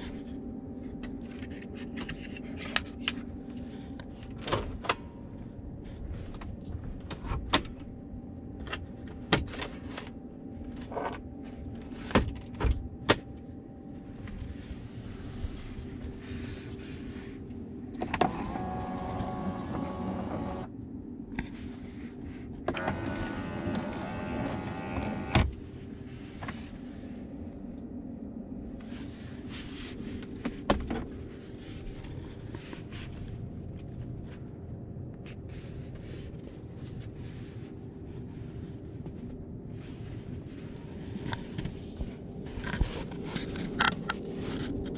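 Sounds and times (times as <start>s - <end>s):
road and drive hum: 0.0s - 44.9s.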